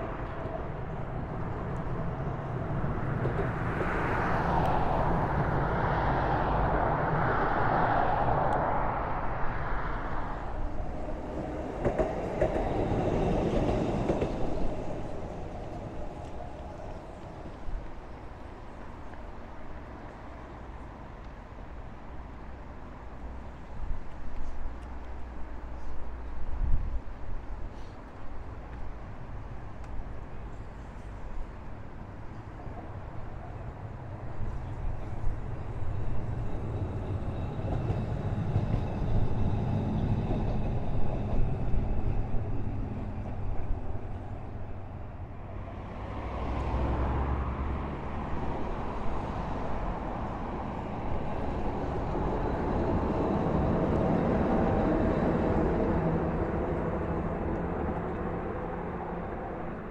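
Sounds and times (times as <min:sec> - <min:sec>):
electric tram running on track: 0:00.0 - 0:59.9.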